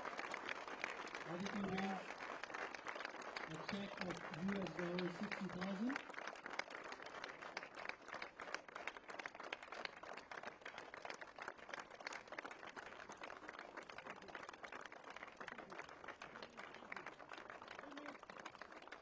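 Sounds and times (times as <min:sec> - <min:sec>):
small crowd applauding: 0:00.0 - 0:19.0.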